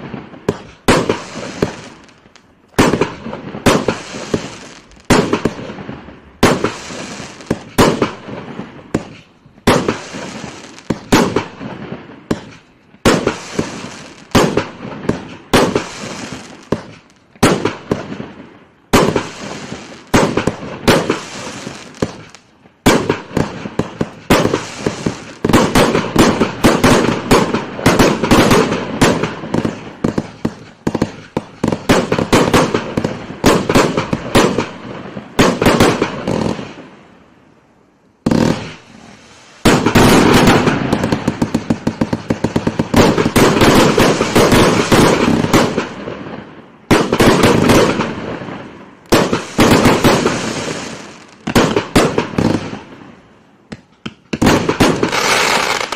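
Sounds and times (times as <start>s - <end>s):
fireworks bangs: 0.0s - 37.2s, 38.2s - 55.9s
fireworks crackling: 0.0s - 55.9s.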